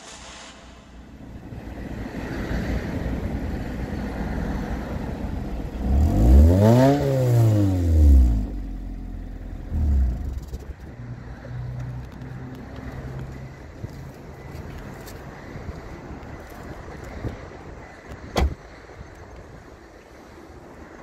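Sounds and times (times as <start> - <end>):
car engine idling and revving: 1.1 - 20.8.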